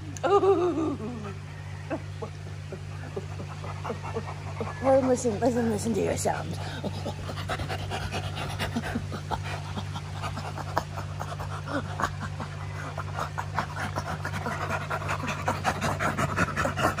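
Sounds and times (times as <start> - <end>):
chimpanzee panting laughs: 0.2 - 5.7, 6.4 - 17.0.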